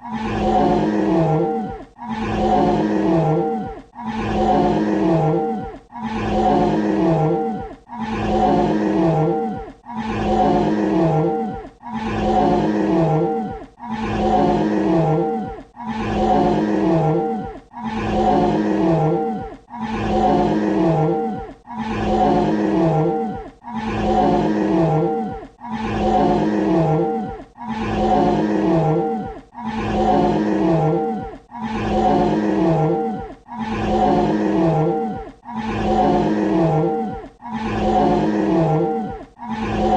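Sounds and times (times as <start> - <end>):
dinosaur roar: 0.0 - 39.9.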